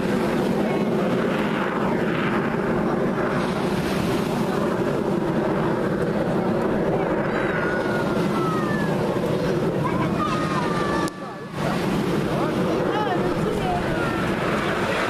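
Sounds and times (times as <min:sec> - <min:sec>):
jets flying past: 0:00.0 - 0:15.0.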